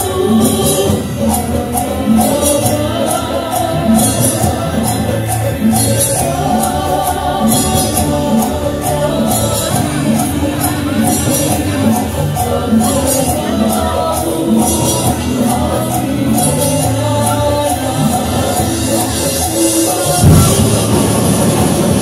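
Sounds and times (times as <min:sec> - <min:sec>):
drums and rattling percussion: 0:00.0 - 0:22.0
festival dance music: 0:00.0 - 0:22.0
people singing: 0:00.0 - 0:22.0.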